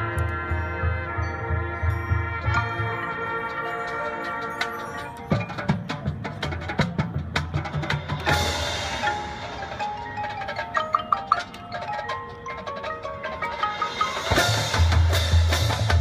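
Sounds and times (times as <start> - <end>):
mallet keyboard notes: 0.0 - 16.0
marching band playing: 0.0 - 16.0.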